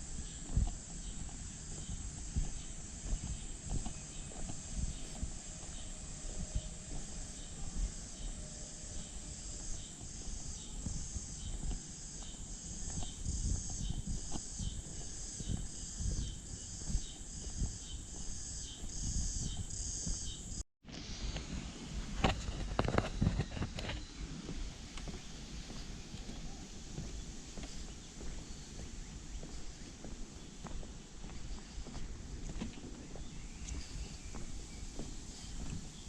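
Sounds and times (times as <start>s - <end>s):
cicadas calling: 0.0s - 20.6s, 22.3s - 36.0s.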